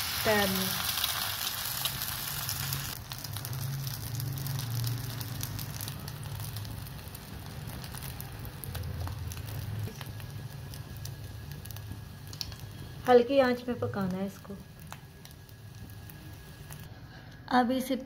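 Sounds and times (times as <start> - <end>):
food sizzling with crackles and pops: 0.0 - 16.9.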